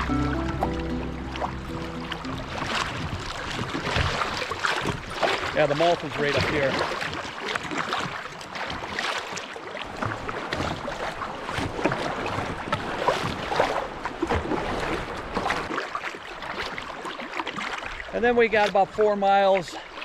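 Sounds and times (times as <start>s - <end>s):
river water rushing around kayak: 0.0s - 20.0s
short water splashes: 0.0s - 20.0s.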